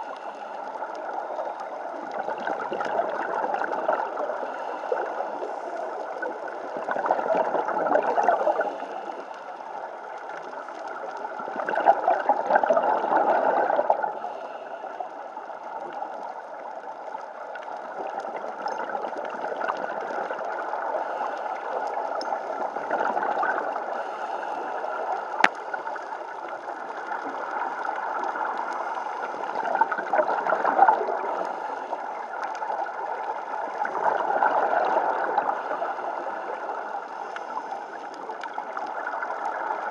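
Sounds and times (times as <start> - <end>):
steady watery rush: 0.0 - 39.9
underwater bubbles gurgling: 0.0 - 39.9.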